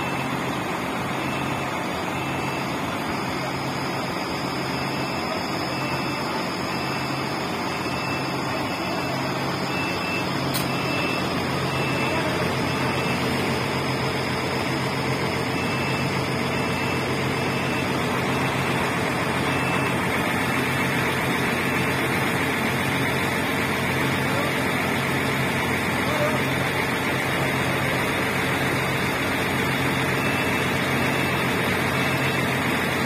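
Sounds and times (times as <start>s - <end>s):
heavy diesel engines running: 0.0s - 33.0s
high-pitched alarm beeping: 0.0s - 33.0s.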